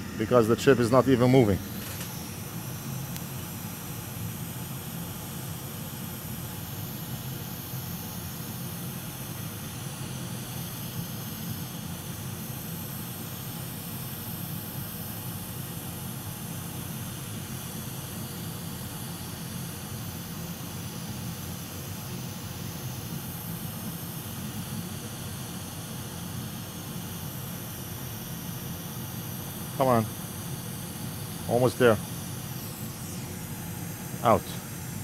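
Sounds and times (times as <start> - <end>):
hot air blower hissing: 0.0 - 35.0.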